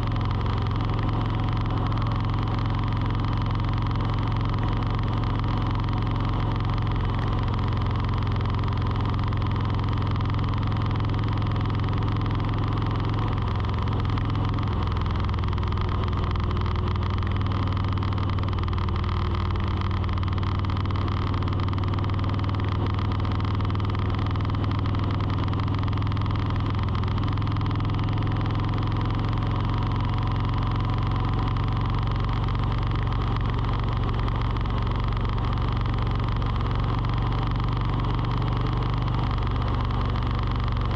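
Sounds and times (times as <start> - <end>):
low engine hum: 0.0 - 40.9.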